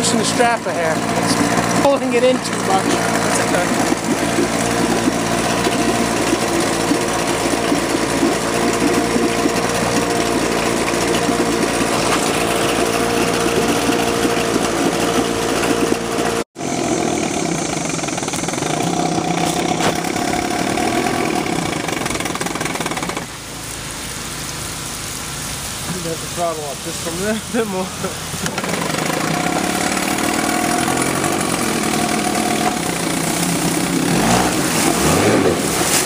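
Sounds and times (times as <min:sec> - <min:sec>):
outboard motor running: 0:00.0 - 0:36.0
propeller churning water: 0:00.0 - 0:36.0.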